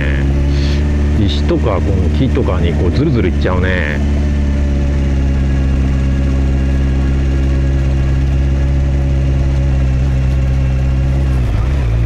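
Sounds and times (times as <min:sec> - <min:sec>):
motorcycle engine idling low: 0:00.0 - 0:12.0.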